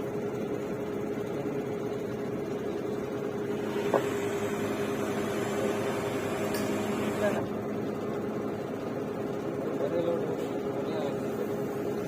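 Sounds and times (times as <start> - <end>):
drilling rig machine hum: 0.0 - 12.0.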